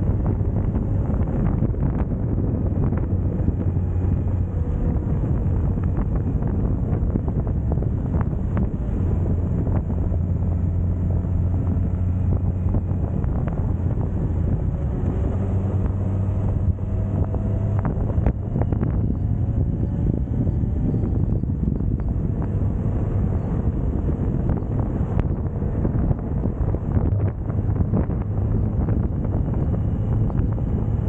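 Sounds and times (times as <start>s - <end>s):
motorcycle engine cruising: 0.0s - 31.0s
wind rush on microphone: 0.0s - 31.0s.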